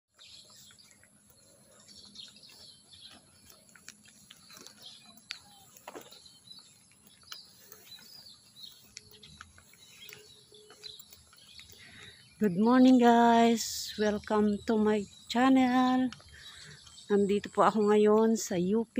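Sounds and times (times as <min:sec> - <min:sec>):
birds chirping: 0:00.1 - 0:18.9.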